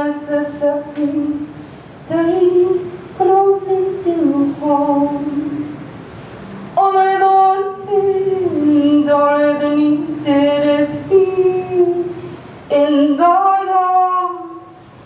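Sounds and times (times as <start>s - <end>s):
woman singing long-held notes: 0.0s - 5.8s, 6.8s - 14.8s.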